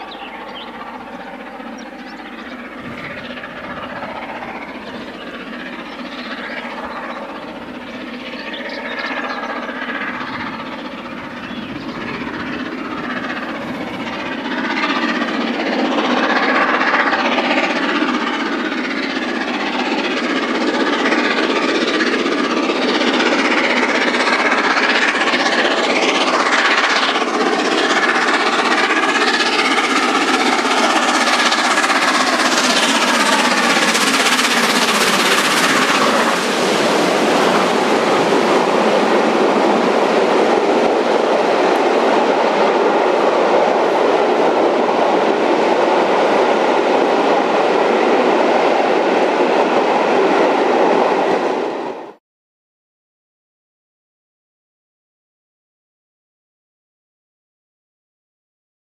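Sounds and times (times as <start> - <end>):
coaches rolling on rails: 0.0 - 52.0
steam locomotive passing: 0.0 - 52.2.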